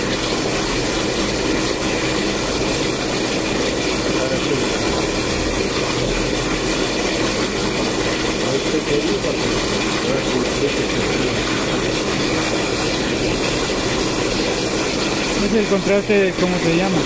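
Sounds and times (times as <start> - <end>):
pump running with hum: 0.0 - 17.0.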